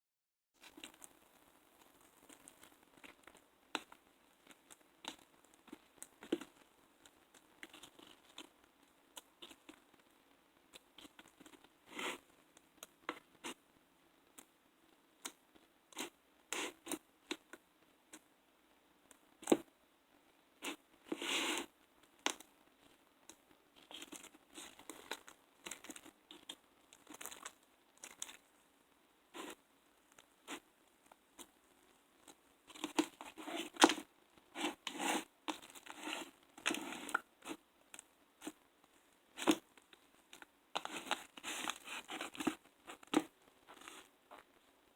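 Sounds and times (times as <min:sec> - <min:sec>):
slime squishing by hand: 0:00.6 - 0:13.6, 0:14.3 - 0:18.3, 0:20.6 - 0:28.5, 0:29.3 - 0:44.6.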